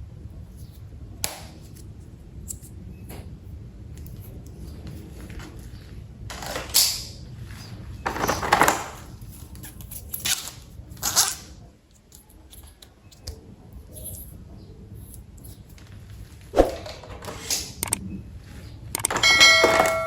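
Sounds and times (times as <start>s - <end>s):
faint handling noises: 0.3s - 20.0s.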